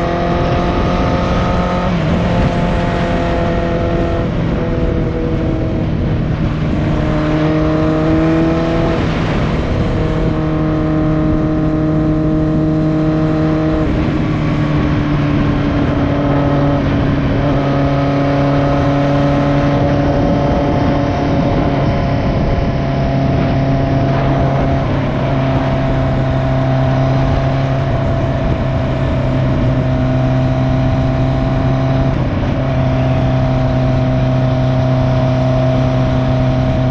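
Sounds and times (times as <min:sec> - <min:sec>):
motorcycle engine running: 0:00.0 - 0:36.9
wind rush on microphone: 0:00.0 - 0:36.9.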